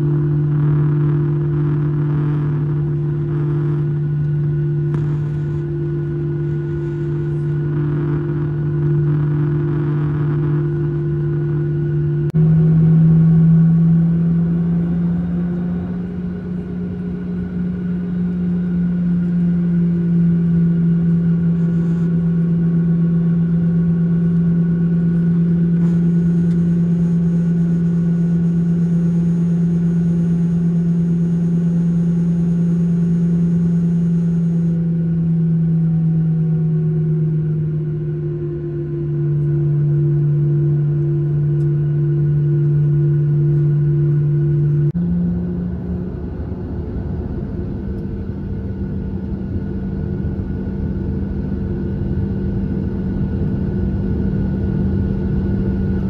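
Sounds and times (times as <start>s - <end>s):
jet engines humming in cabin: 0.0s - 56.0s.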